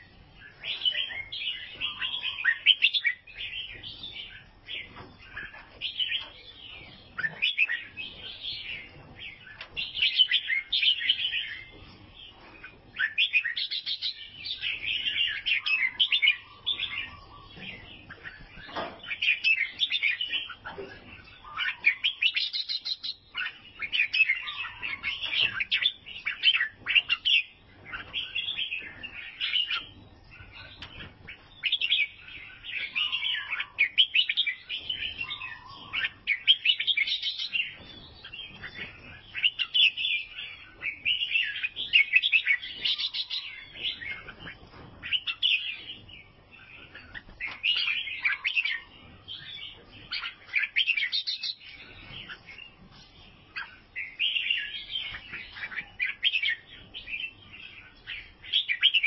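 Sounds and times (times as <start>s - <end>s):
bird singing chirpy phrases: 0.0s - 59.0s.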